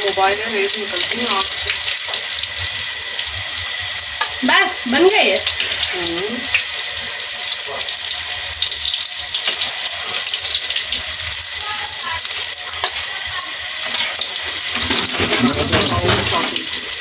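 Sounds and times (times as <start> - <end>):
deep-frying crackling sizzle: 0.0 - 17.0.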